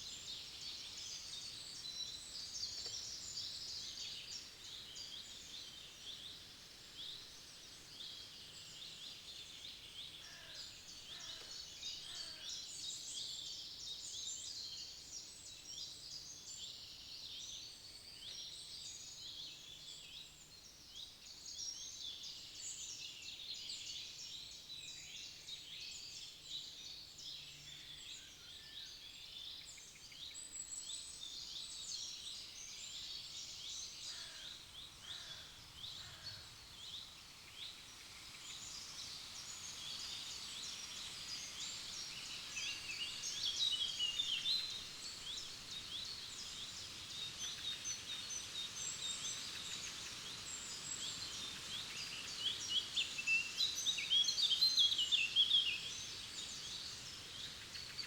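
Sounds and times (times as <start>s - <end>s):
songbirds chorus chirping and trilling: 0.0s - 58.0s.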